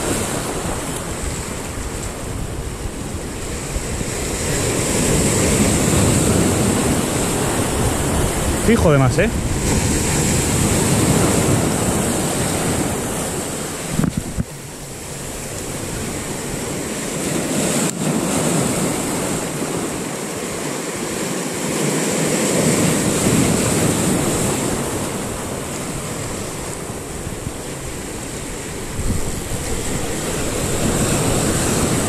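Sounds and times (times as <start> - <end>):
wind on the microphone: 0.0 - 20.1, 22.6 - 32.0
surf breaking over rocks: 0.0 - 32.0.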